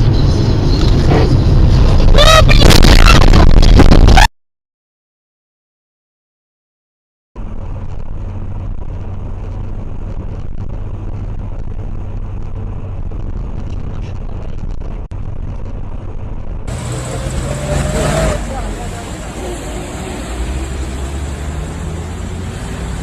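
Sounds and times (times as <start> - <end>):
car engine and road rumble: 0.0 - 4.3, 7.4 - 23.0
traffic: 0.0 - 4.3, 7.4 - 23.0.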